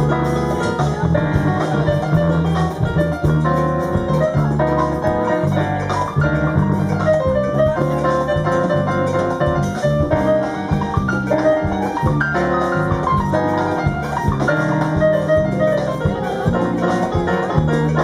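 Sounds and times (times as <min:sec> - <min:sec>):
drums: 0:00.0 - 0:18.0
keyboard: 0:00.0 - 0:18.0
marimba runs: 0:00.0 - 0:18.0.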